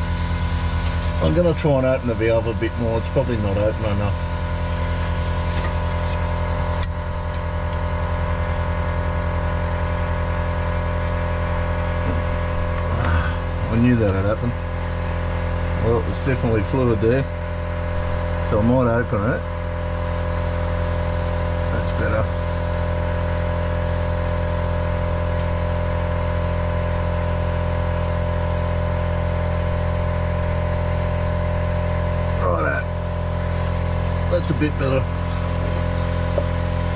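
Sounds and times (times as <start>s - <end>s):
compressed air hum with hiss: 0.0s - 36.9s.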